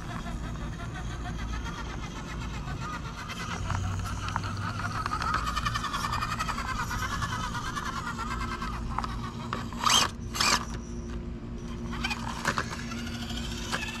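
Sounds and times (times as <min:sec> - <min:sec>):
toy car drivetrain whining: 0:00.0 - 0:14.0.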